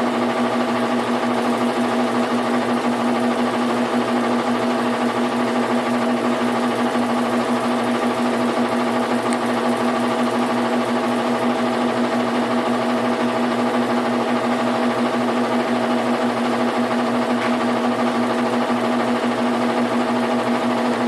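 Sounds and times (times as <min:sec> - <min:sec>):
washing machine humming and rattling: 0:00.0 - 0:21.0.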